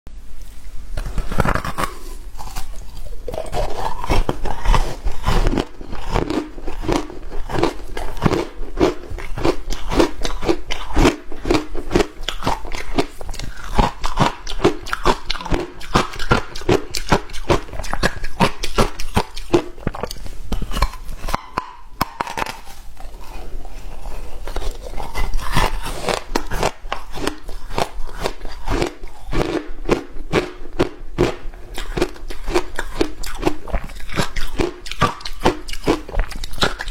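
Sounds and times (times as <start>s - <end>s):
person crunching ice: 1.0s - 36.9s.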